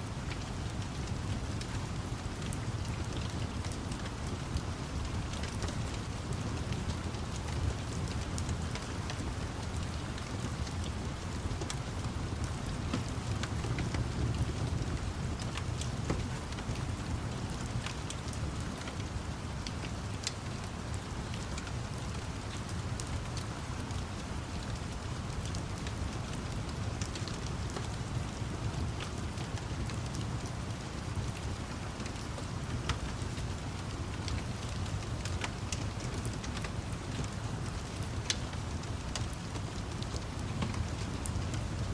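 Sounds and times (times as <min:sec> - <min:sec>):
steady rain: 0:00.0 - 0:41.9
wood fire crackling: 0:00.1 - 0:41.9.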